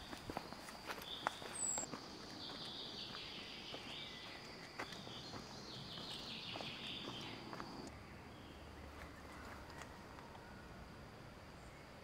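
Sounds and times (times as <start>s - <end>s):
birds singing: 0.0s - 10.6s.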